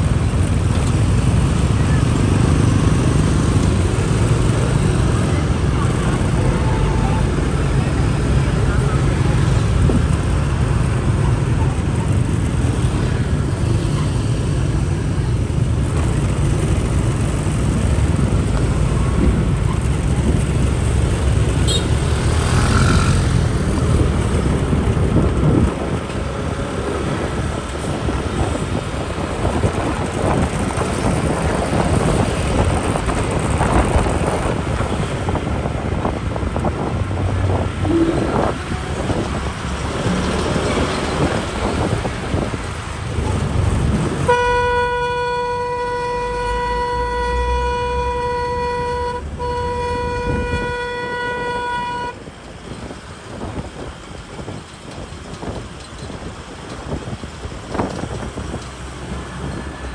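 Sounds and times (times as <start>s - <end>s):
motorbike engines rumbling: 0.0s - 59.9s.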